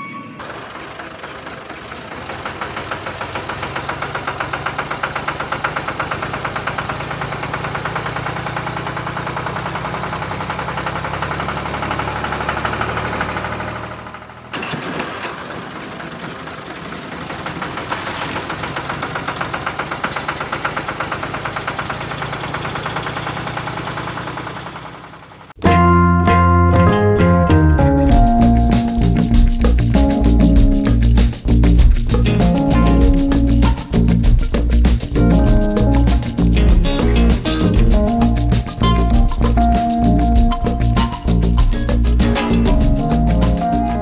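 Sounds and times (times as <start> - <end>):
vehicle engine chugging: 0.4 - 25.6, 28.1 - 44.0.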